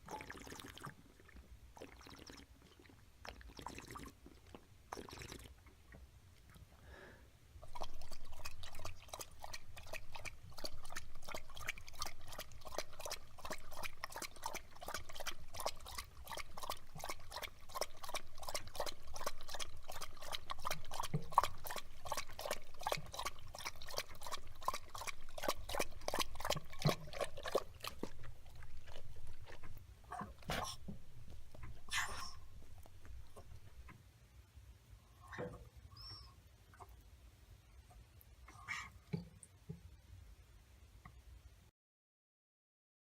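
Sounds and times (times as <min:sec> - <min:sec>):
tortoise gulping water: 0:00.0 - 0:06.9, 0:07.5 - 0:40.2.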